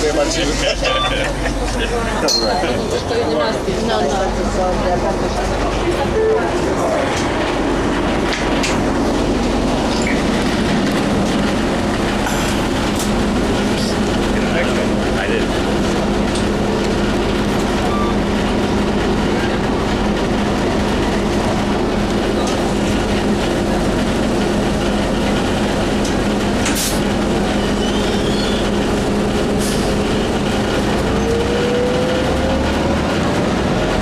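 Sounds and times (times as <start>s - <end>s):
bus engine drone and rumble: 0.0s - 34.0s.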